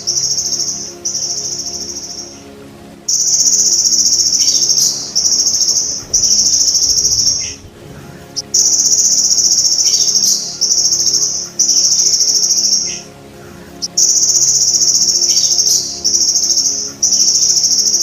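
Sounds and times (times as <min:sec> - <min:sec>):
grasshopper buzzing trill: 0:03.1 - 0:18.0.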